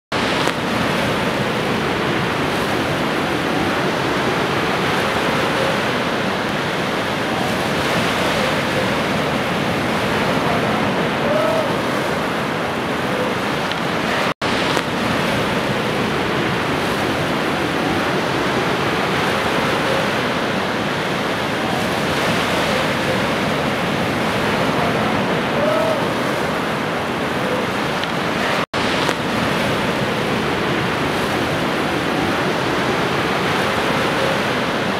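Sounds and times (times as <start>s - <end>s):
waves breaking on beach: 0.1s - 34.9s.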